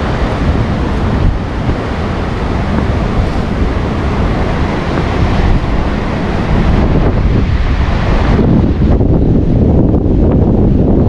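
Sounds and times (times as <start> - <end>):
gusting wind on microphone: 0.0 - 11.0
sea surf breaking on shore: 0.0 - 11.0.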